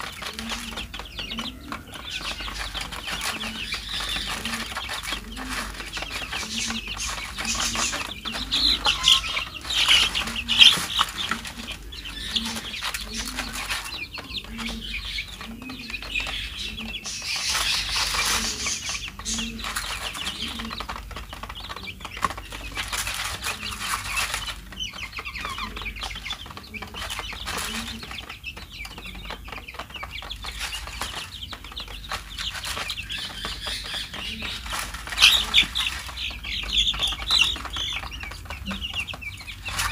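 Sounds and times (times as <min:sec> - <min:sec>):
chicks cheeping: 0:00.0 - 0:39.9.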